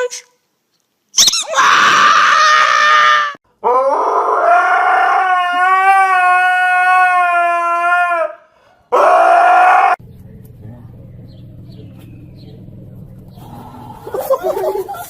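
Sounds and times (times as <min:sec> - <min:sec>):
dog howling: 0:01.5 - 0:15.0.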